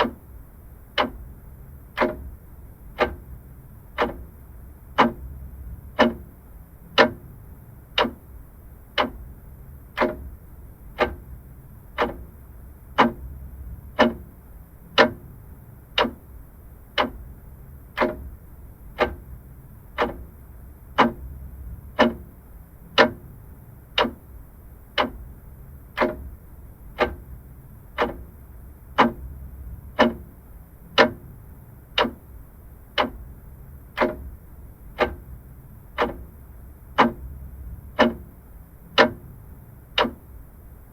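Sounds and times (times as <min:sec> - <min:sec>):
mechanical clock ticking: 0:00.0 - 0:40.8.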